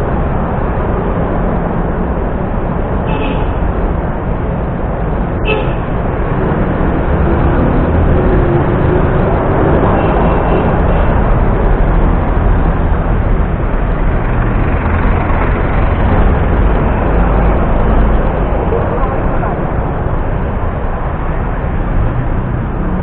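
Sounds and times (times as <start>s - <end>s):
cars passing close by: 0.0s - 23.0s.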